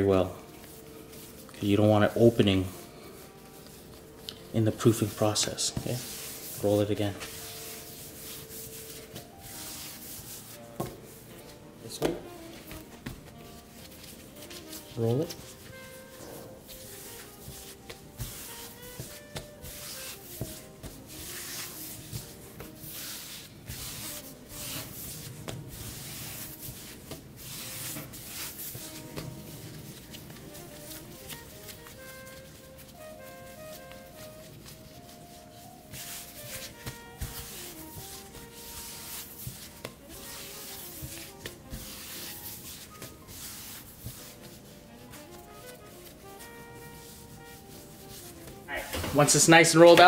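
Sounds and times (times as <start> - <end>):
faint background music: 0.0 - 50.0
hands rubbing dough on board: 0.0 - 50.0.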